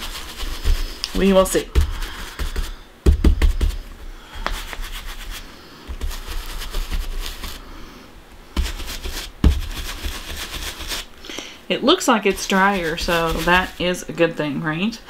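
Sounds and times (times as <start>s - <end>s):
paintbrush scrubbing through stencil: 0.0s - 7.7s, 8.5s - 11.1s, 12.1s - 14.1s.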